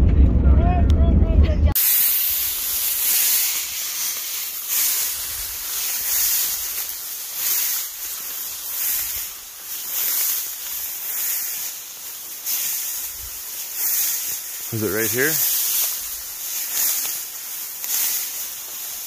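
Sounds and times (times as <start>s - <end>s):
dry grass swishing against legs: 1.8s - 19.0s
soft footsteps: 2.8s - 19.0s.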